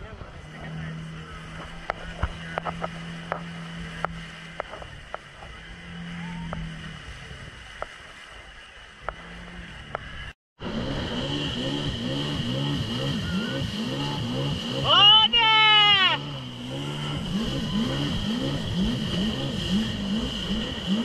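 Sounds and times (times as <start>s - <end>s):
jet ski engine: 0.0s - 21.0s.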